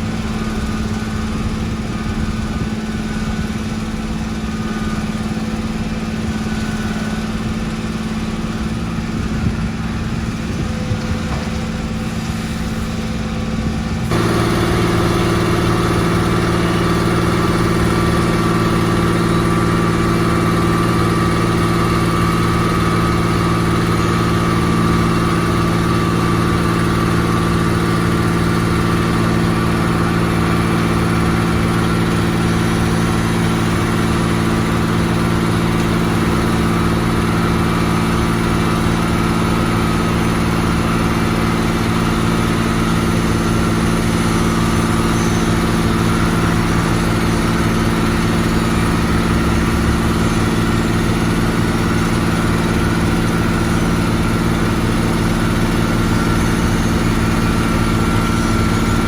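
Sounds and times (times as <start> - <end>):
diesel engine running steadily: 0.0 - 59.0.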